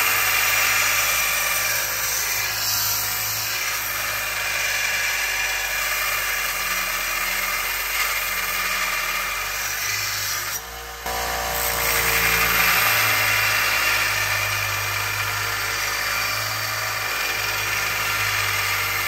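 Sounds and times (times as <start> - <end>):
belt sander grinding steel: 0.0 - 19.0.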